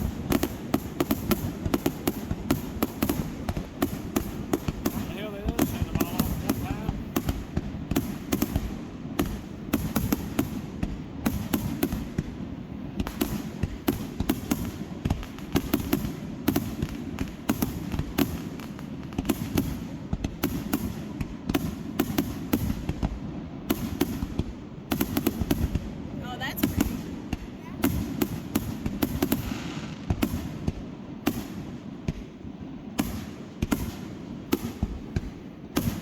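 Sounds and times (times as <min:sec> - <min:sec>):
fireworks popping and crackling: 0:00.0 - 0:36.0.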